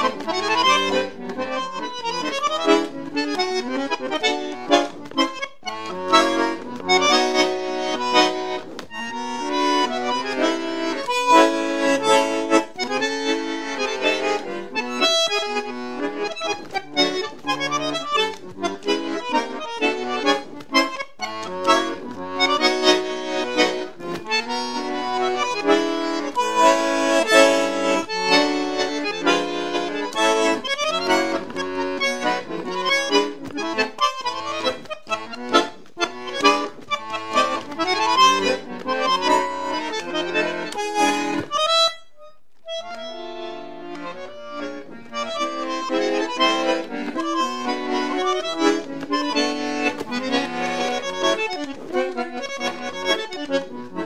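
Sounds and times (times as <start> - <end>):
bandoneon playing a tango: 0.0 - 54.0.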